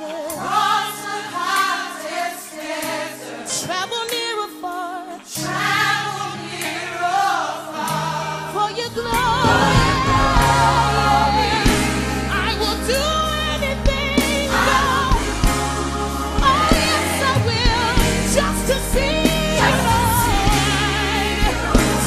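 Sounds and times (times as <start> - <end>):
gospel choir singing: 0.0 - 22.0.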